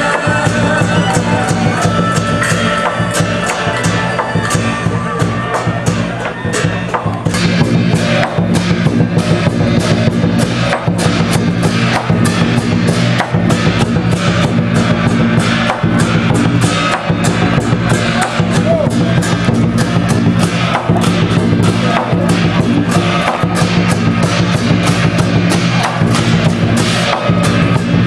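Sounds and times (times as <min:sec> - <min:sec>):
drum-driven music: 0:00.0 - 0:28.0.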